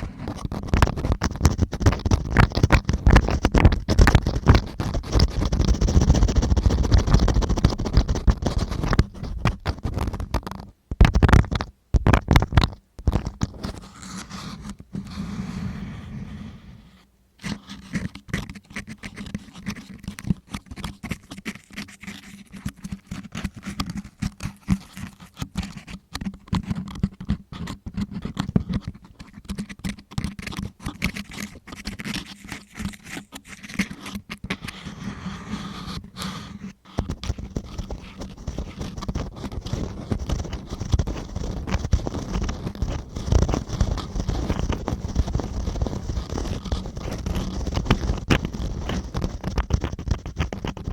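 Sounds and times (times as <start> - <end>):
rubbing on microphone: 0.0 - 50.9
tool scratching inside microphone ear: 0.0 - 50.9.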